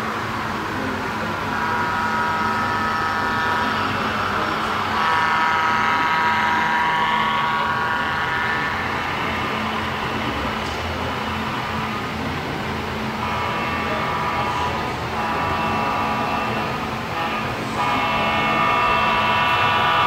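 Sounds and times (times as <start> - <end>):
model locomotive horn blasts: 0.0 - 12.2, 12.8 - 20.0
steady hum of hall: 0.0 - 20.0.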